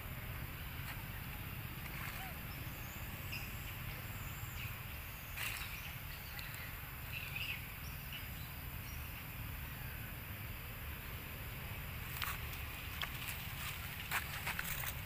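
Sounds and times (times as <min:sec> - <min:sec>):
high insect hum: 0:00.0 - 0:15.0.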